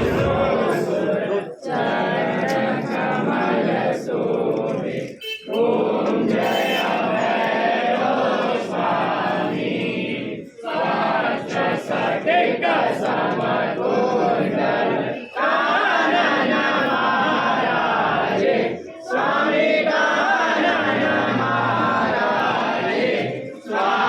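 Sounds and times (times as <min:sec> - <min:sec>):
crowd chanting: 0:00.0 - 0:24.0.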